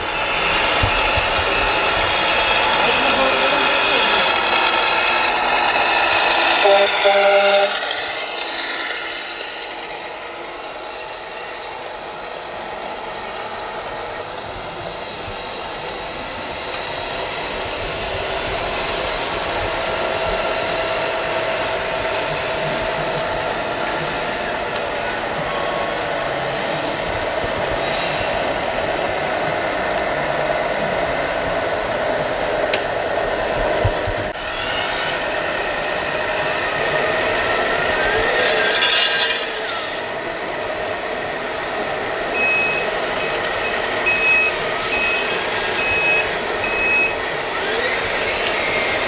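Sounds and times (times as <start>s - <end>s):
small electric motors whirring: 0.0s - 49.0s.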